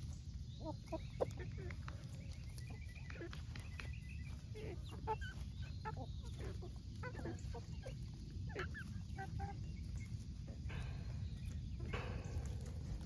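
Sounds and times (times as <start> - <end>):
chickens clucking: 0.0 - 13.0
steady low rumble: 0.0 - 13.0.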